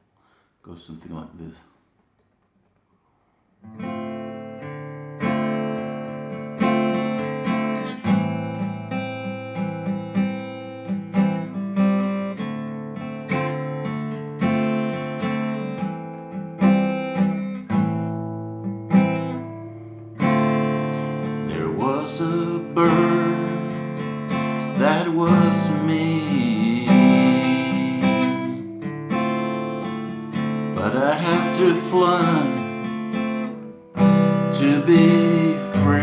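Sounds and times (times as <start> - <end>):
acoustic guitar strumming: 3.6 - 36.0.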